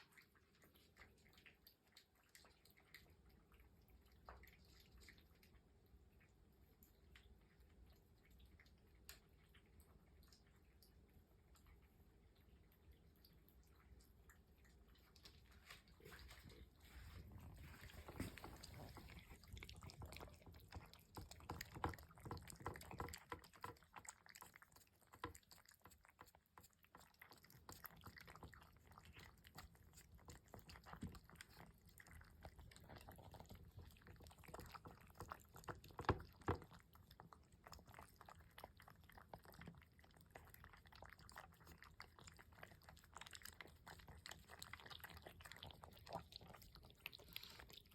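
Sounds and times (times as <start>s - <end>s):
cats eating from bowls: 0.0s - 47.9s.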